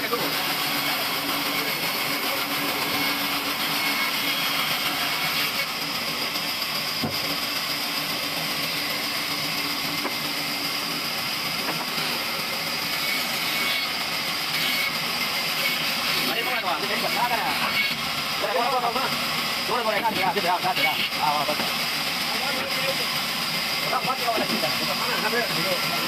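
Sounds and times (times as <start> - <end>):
band saw cutting through log: 0.0 - 26.0.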